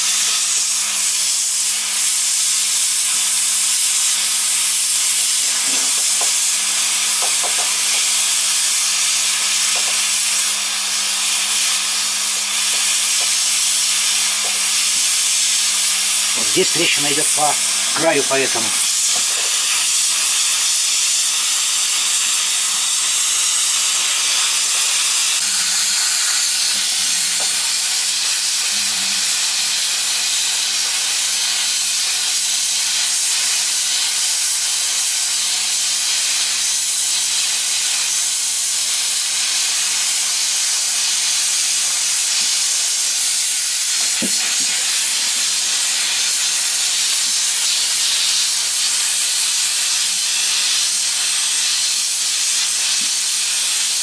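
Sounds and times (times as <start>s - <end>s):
hot-air gun hissing: 0.0s - 54.0s.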